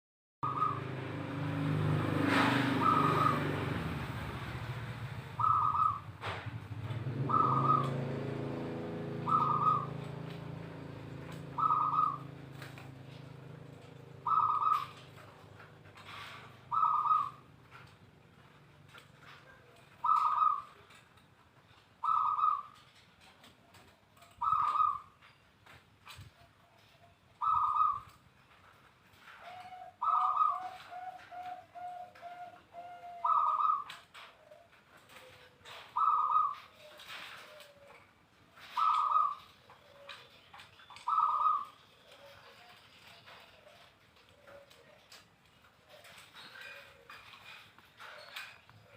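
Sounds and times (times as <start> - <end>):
dove cooing: 0.4 - 21.2, 22.0 - 25.4, 26.1 - 48.9.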